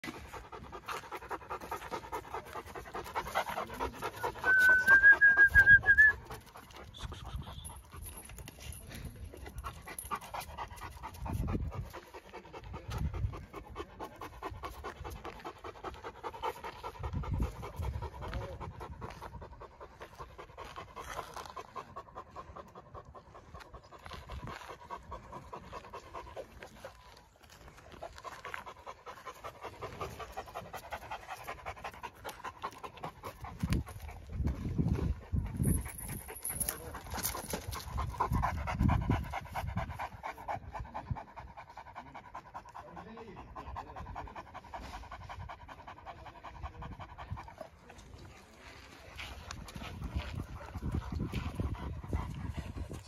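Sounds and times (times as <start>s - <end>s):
dog panting: 0.0s - 53.0s.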